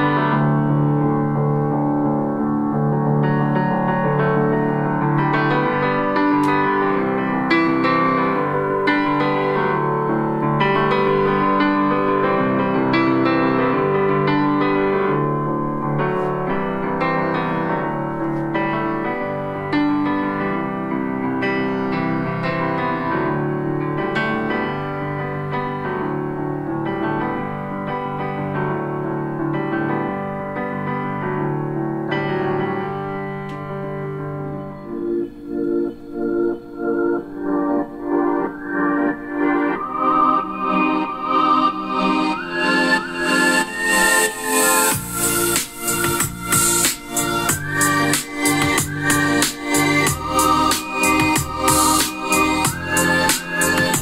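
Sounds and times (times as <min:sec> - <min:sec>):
piano music through small speakers: 0:00.0 - 0:54.0.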